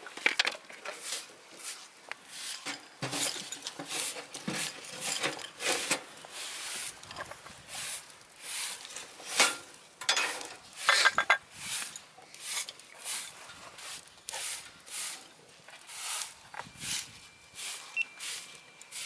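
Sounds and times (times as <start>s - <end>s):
wood crackling and popping in stove: 0.0s - 19.0s.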